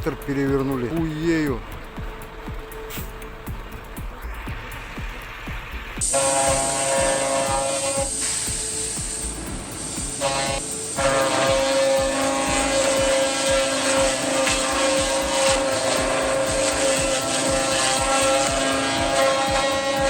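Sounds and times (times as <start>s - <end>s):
machine high-pitched whine: 0.0s - 20.0s.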